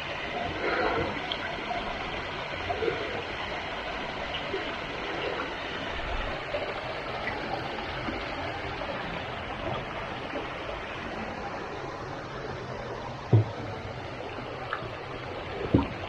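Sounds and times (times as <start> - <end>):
stream running water: 0.0 - 16.0.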